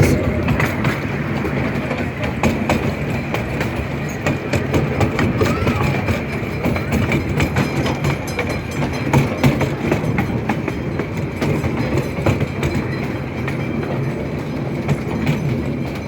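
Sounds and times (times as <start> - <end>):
train rumbling along track: 0.0 - 16.0
wheels clacking over rails: 0.0 - 16.0.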